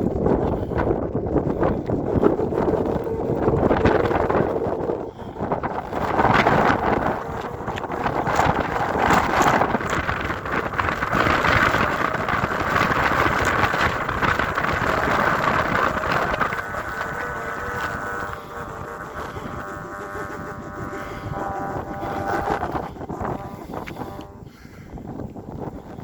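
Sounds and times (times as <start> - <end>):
kite hummer droning: 0.0 - 26.0
wind buffeting microphone: 0.0 - 26.0.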